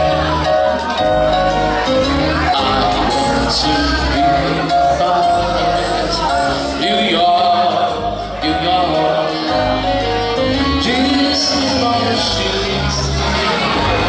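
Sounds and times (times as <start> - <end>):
electronic keyboard: 0.0 - 14.0
man singing into microphone: 0.0 - 14.0.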